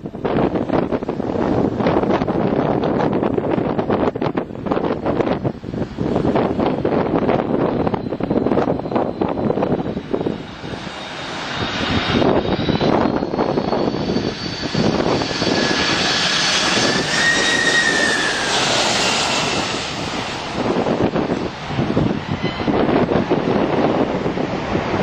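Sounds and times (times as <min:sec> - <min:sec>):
high jet engine whine: 0:00.0 - 0:25.0
jet engines rushing: 0:00.0 - 0:25.0.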